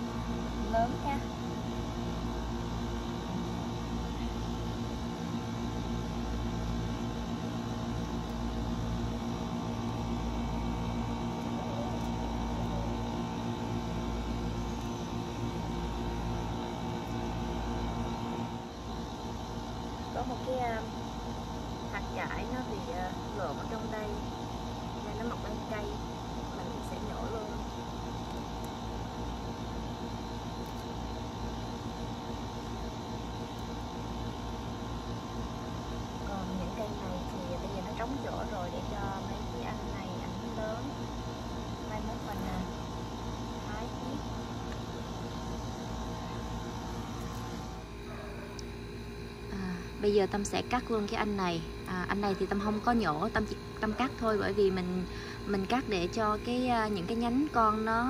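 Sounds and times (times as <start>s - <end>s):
machine hum: 0.0s - 58.0s.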